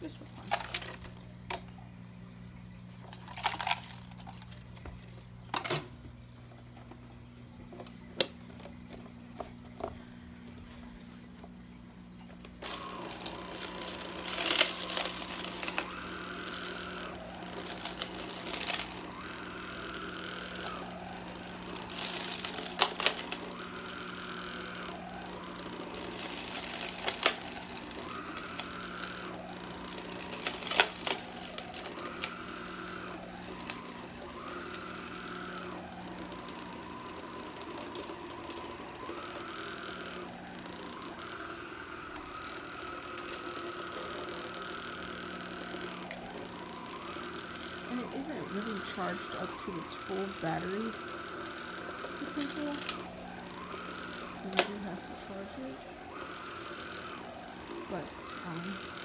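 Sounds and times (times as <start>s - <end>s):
floor sweeper motor humming: 0.0s - 59.0s.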